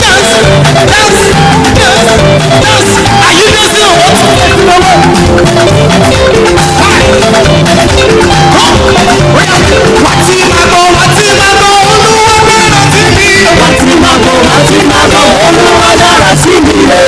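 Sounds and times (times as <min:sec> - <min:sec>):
band and choir praise music: 0:00.0 - 0:17.0.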